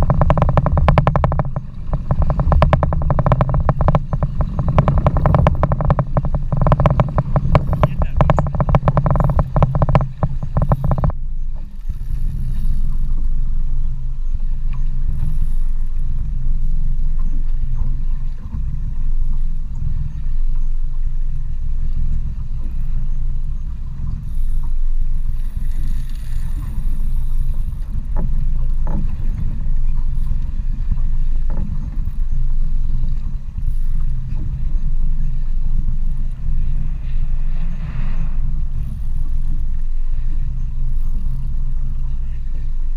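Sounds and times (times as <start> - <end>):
outboard motors idling: 0.0 - 42.9.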